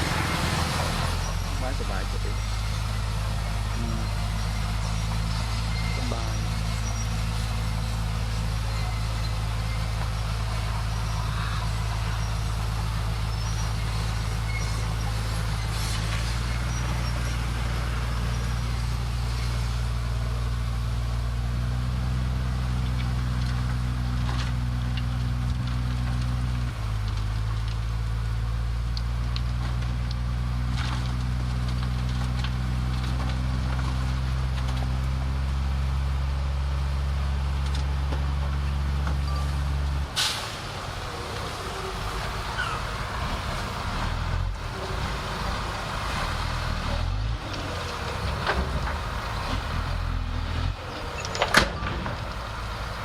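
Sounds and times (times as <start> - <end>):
heavy machine diesel engine: 0.0 - 53.0.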